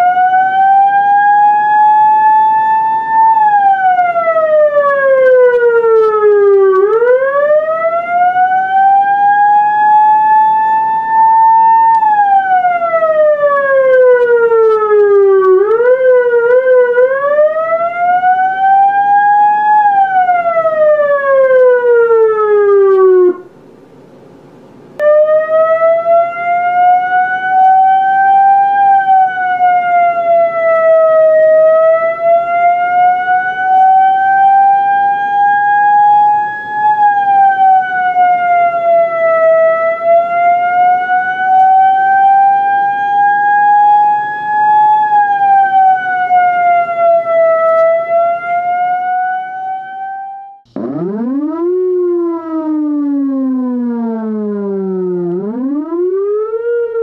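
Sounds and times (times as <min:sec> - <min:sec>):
police siren wailing: 0:00.0 - 0:23.5, 0:25.0 - 0:57.0.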